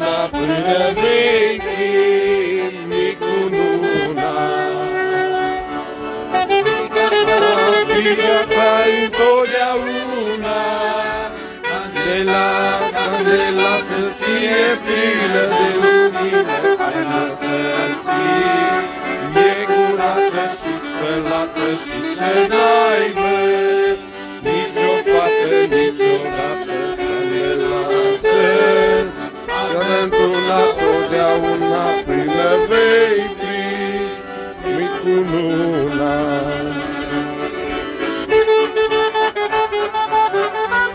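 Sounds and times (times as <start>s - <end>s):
accordion melody: 0.0s - 40.9s.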